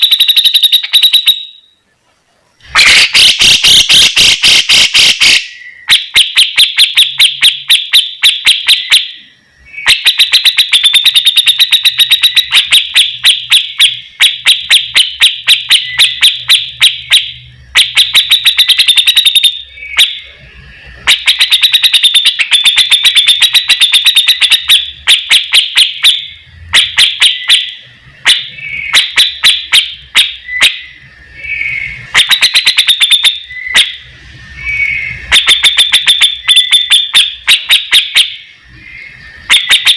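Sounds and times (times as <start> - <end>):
songbird ticking song: 2.7 - 39.9.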